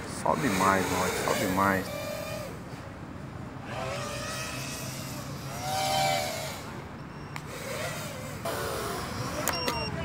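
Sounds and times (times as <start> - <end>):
drone motors whining: 0.0 - 2.8, 3.6 - 10.0.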